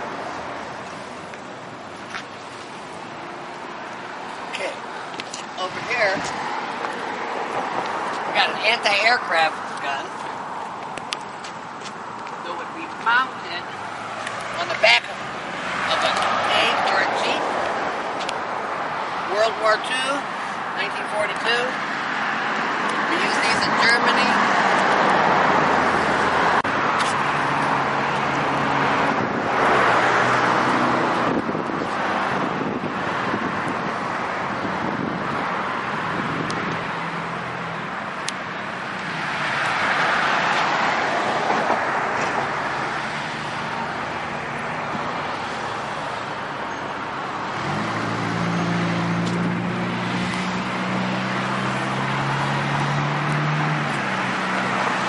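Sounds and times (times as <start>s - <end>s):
cars passing on street: 0.0s - 55.0s
vehicle engine humming: 0.0s - 55.0s.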